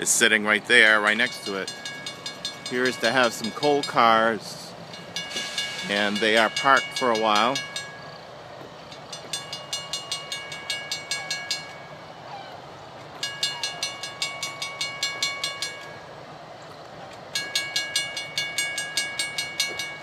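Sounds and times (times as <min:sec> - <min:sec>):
railroad crossing bell ringing: 0:00.0 - 0:20.0.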